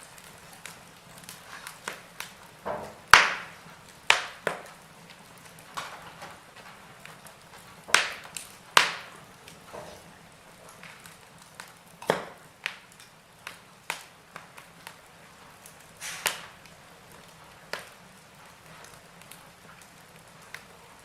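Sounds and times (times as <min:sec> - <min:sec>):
faint steady hiss: 0:00.0 - 0:21.0
fire crackling and popping: 0:00.0 - 0:21.0.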